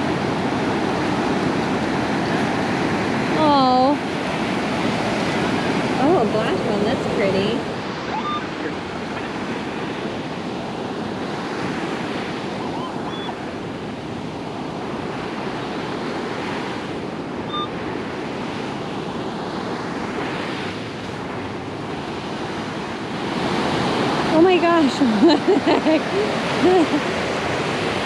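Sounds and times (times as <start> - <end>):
ocean surf breaking: 0.0 - 28.0.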